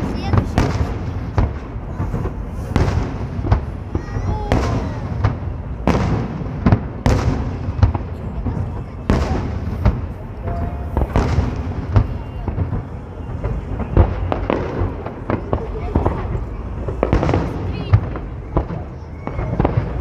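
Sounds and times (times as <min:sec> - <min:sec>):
fireworks bangs: 0:00.0 - 0:20.0
low rumble of fireworks: 0:00.0 - 0:20.0.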